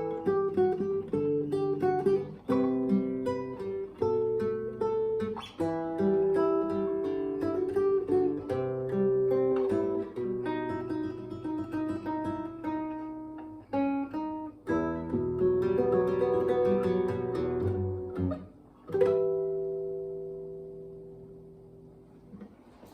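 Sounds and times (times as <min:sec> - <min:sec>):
acoustic guitar playing: 0:00.0 - 0:22.9.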